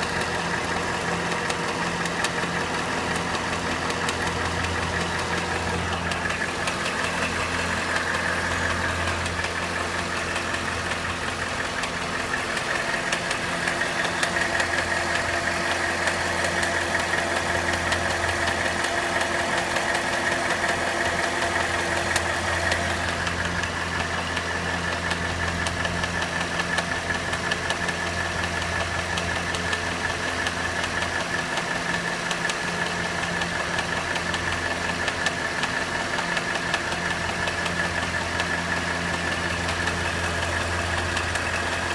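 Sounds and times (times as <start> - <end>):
car engine idling: 0.0 - 41.9
faint engine clicking: 0.0 - 41.9.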